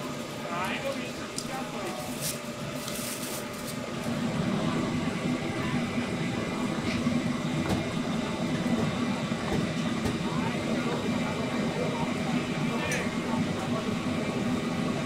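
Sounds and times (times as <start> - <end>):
crowd voices: 0.0 - 15.0.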